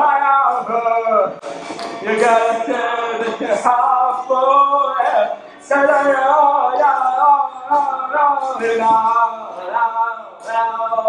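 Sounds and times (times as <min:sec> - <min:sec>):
man singing wordless syllables: 0:00.0 - 0:11.0.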